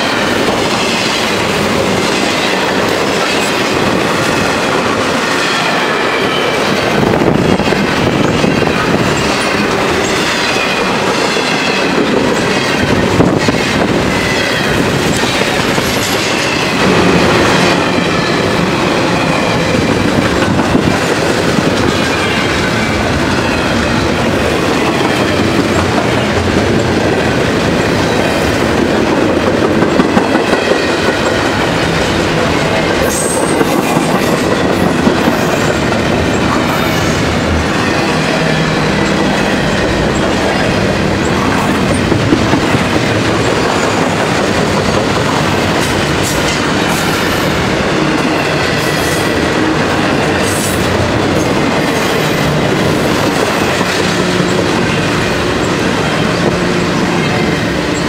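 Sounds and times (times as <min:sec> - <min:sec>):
steel wheels rumbling on rails: 0:00.0 - 0:58.0.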